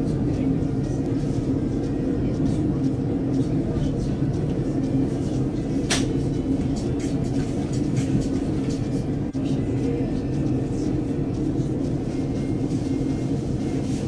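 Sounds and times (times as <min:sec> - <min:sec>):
electric train rumble: 0:00.0 - 0:14.0.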